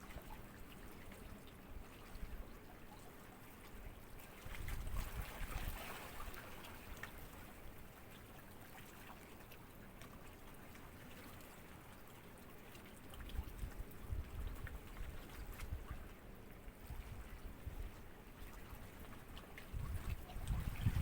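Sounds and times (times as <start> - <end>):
small waves lapping: 0.0 - 21.0.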